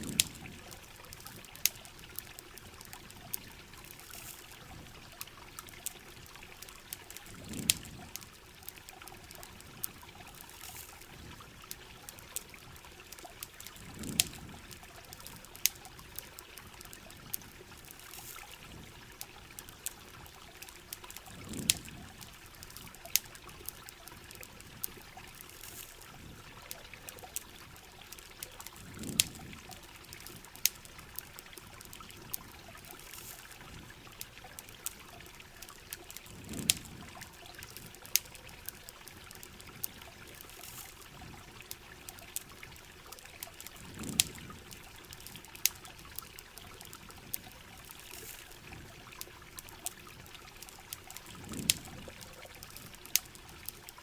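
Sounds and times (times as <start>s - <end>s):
campfire crackling and popping: 0.0s - 54.0s
rain: 0.0s - 54.0s
trickling water: 0.0s - 54.0s.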